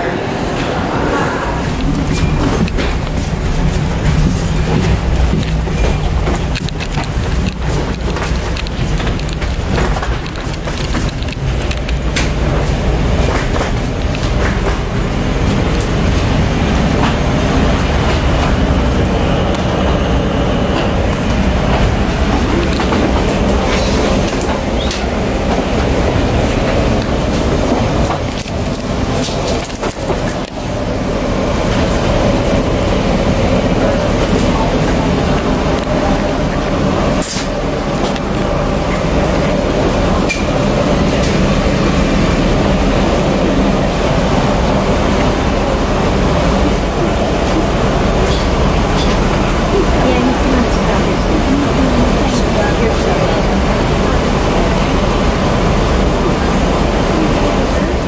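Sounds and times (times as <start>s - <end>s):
roar of air and machinery: 0.0s - 58.0s
roller bag wheels rumbling: 0.8s - 58.0s.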